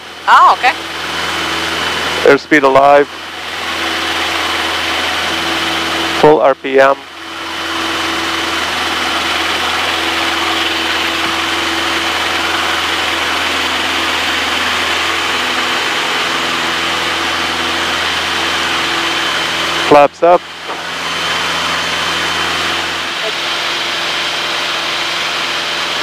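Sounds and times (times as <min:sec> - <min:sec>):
airplane engine and propeller drone: 0:00.0 - 0:26.0.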